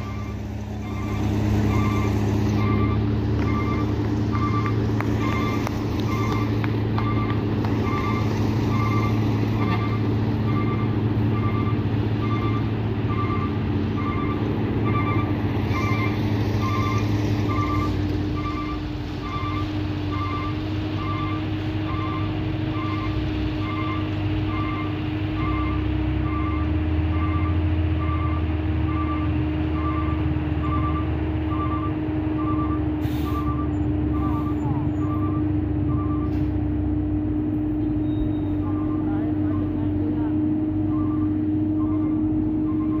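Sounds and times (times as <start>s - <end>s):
reversing alarm beeping: 0.0s - 36.4s, 40.8s - 43.0s
diesel truck engine running: 0.0s - 43.0s.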